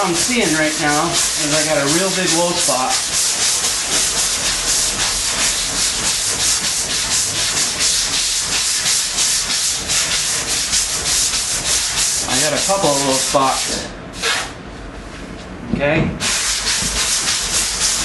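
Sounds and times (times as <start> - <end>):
hand sanding strokes: 0.0 - 14.5, 16.2 - 18.0.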